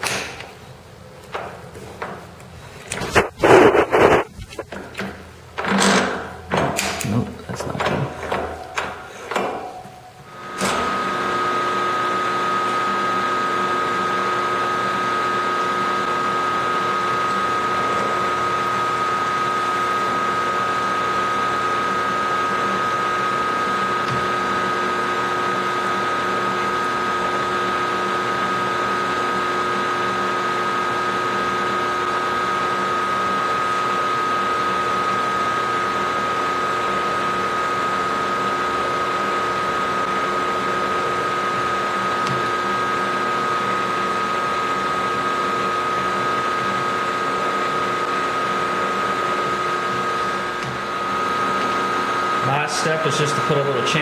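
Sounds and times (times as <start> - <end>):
milling machine spindle whine: 7.5 - 54.0.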